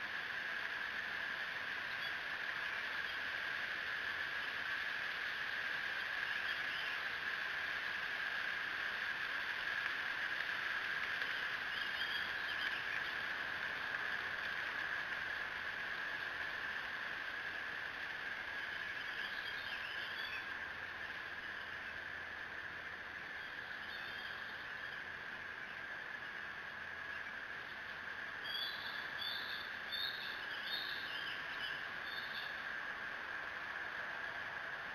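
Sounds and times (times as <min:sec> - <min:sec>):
high-pitched outdoor hum: 0:00.0 - 0:34.9.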